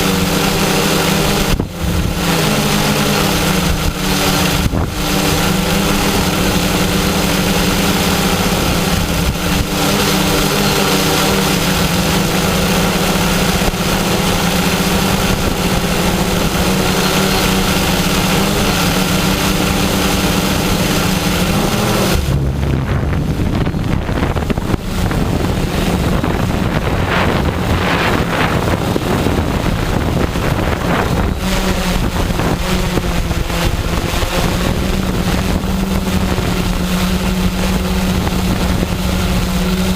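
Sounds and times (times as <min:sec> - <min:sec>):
drone propellers humming: 0:00.0 - 0:39.9
wind buffeting microphone: 0:00.0 - 0:39.9.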